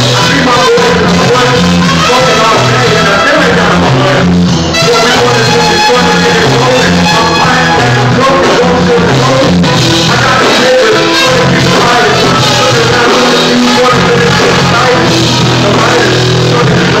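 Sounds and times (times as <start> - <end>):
drums: 0.0 - 17.0
electric guitar: 0.0 - 17.0
person singing: 0.0 - 17.0.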